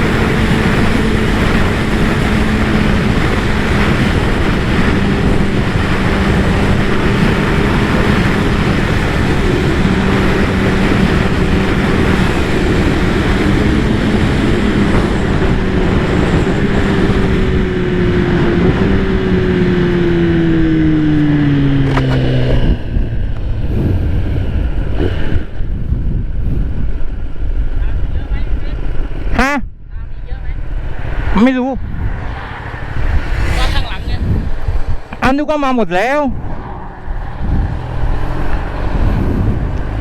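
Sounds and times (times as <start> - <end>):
motorcycle engine cruising: 0.0 - 40.0
wind rush: 0.0 - 40.0.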